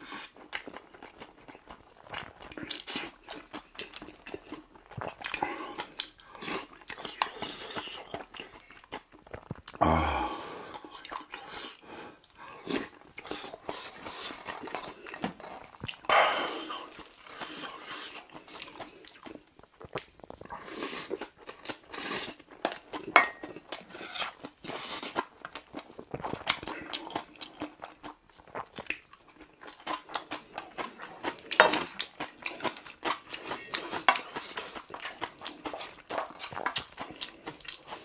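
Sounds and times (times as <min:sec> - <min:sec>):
chewing and smacking: 0:00.0 - 0:09.8, 0:10.7 - 0:38.0.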